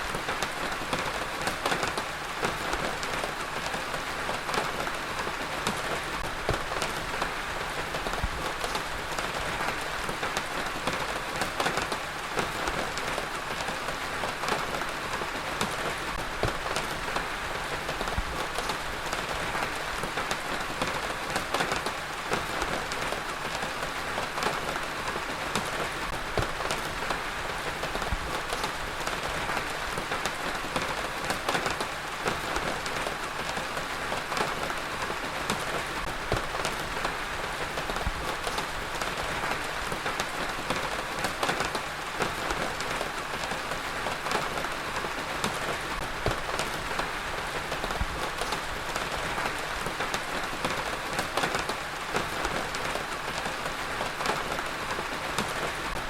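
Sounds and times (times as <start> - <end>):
heavy rain on a hard surface: 0.0 - 56.0.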